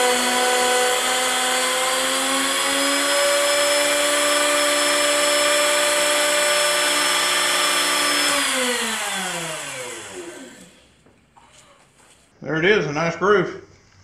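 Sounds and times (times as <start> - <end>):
electric router whining: 0.0 - 11.6.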